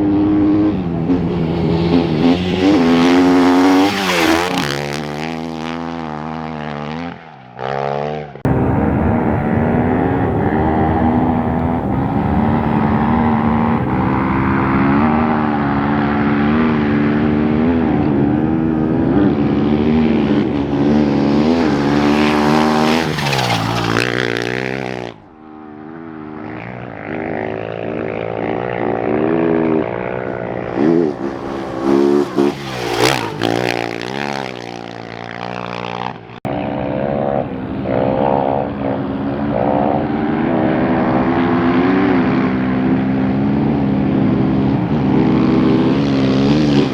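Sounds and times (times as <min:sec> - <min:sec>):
motorcycles revving and passing by: 0:00.0 - 0:06.9, 0:08.5 - 0:46.9.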